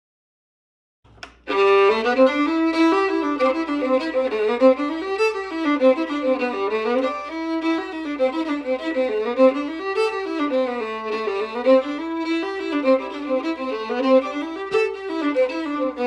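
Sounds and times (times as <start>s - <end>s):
solo fiddle playing fast tune: 1.4s - 16.0s.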